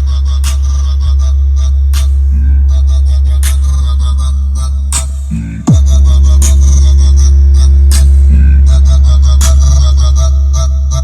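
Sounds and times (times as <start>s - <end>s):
bass-heavy funk music: 0.0s - 11.0s.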